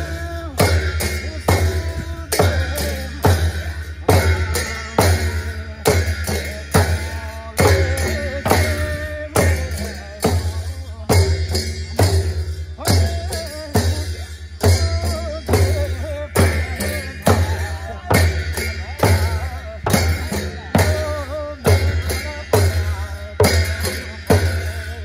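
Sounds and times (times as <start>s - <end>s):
frame drums beaten: 0.0s - 25.0s
hand cymbals clashing: 0.0s - 25.0s.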